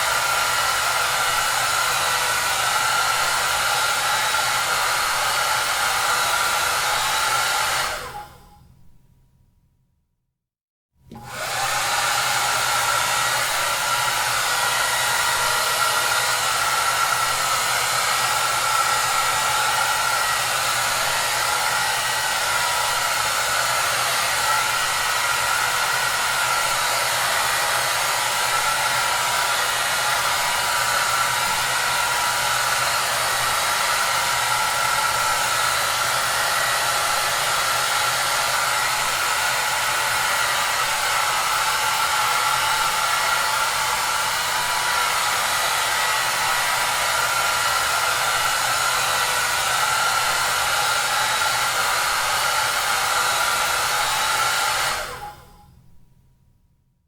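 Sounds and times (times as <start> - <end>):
hair dryer blowing: 0.0 - 8.5, 11.1 - 55.6.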